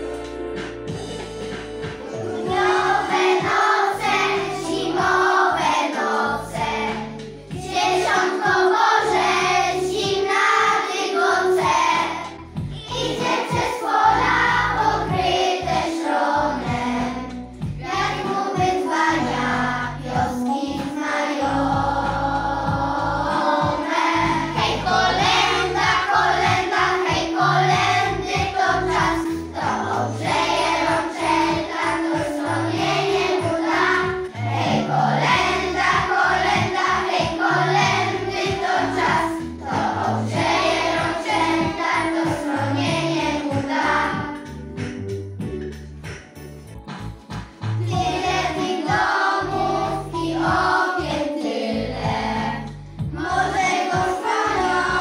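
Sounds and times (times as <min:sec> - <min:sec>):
instrumental backing track: 0:00.0 - 0:55.0
children singing in unison: 0:02.1 - 0:44.5, 0:47.8 - 0:55.0.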